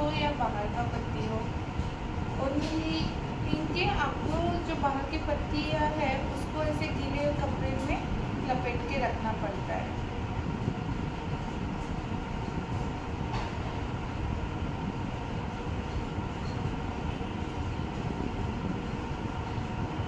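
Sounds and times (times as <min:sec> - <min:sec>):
faint hum: 0:00.0 - 0:20.0
low rumbling background noise: 0:00.0 - 0:20.0.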